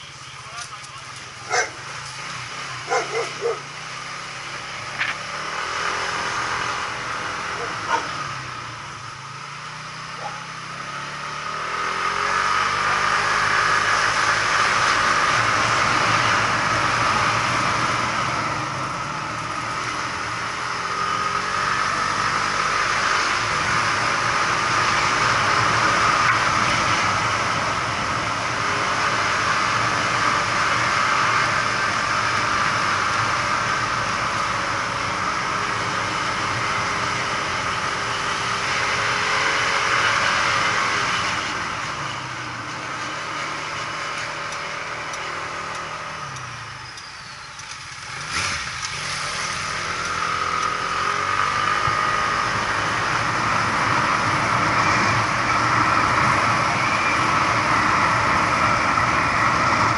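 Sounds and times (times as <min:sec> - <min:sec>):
motorbike engine: 0:00.0 - 0:59.9.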